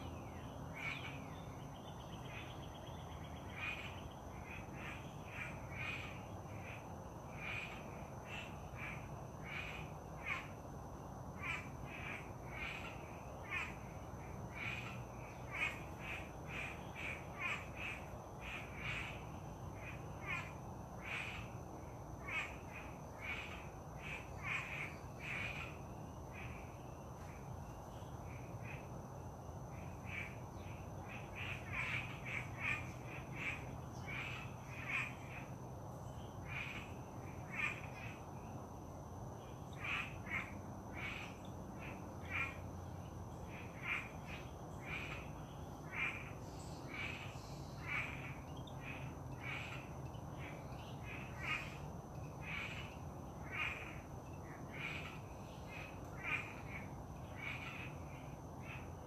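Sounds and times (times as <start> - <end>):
faint steady background hum: 0.0 - 59.0.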